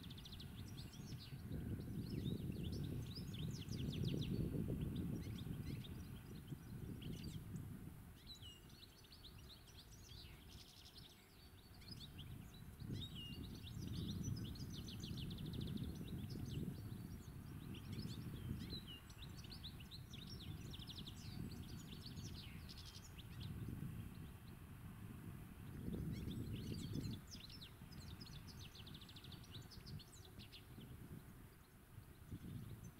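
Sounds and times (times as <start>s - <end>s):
goldfinch singing: 0.0s - 7.5s, 8.2s - 23.6s, 25.6s - 30.9s.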